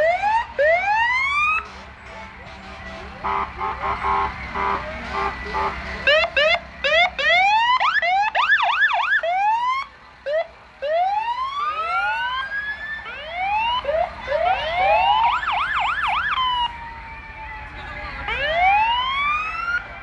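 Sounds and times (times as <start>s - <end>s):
fire truck sirens whooping: 0.0s - 20.0s.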